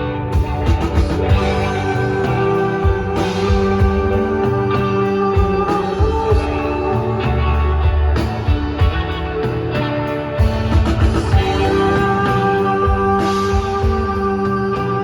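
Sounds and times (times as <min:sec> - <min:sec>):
bass: 0:00.0 - 0:15.0
electric guitar: 0:00.0 - 0:15.0
drum beat: 0:00.4 - 0:09.8, 0:10.4 - 0:14.4.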